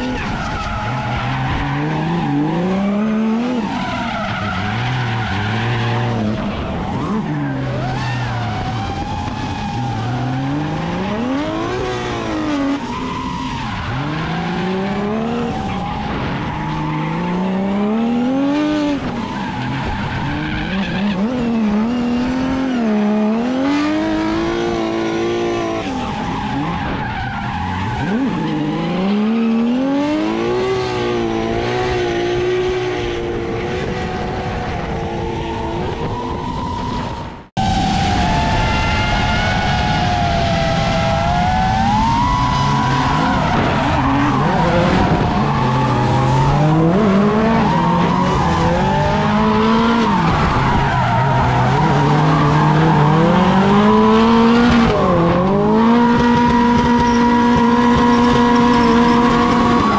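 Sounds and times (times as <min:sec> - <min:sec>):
car engine revving: 0:00.0 - 0:36.0, 0:37.4 - 0:59.9.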